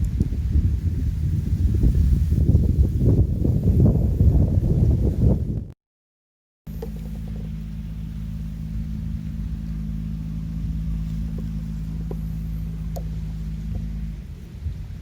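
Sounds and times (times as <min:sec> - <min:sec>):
engine humming: 0:00.0 - 0:05.8, 0:06.7 - 0:15.0.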